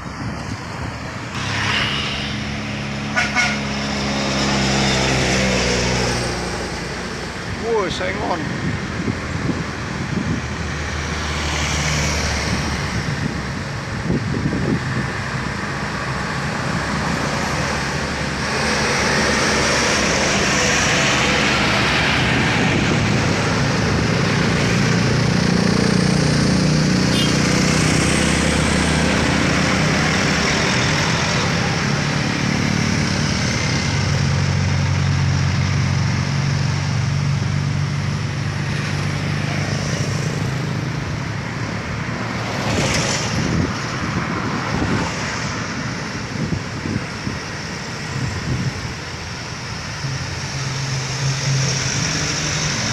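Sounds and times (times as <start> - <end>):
truck diesel engine passing: 0.0 - 52.9.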